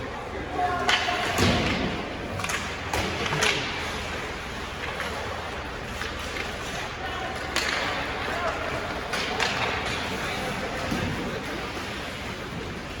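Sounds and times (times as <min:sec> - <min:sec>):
hockey sticks hitting puck: 0:00.0 - 0:13.0
rink background noise: 0:00.0 - 0:13.0.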